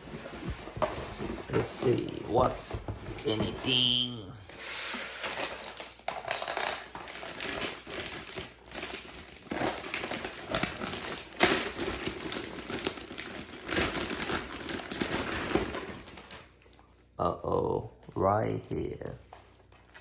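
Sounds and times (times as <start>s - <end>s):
packaging rustling and crinkling: 0.0s - 16.6s.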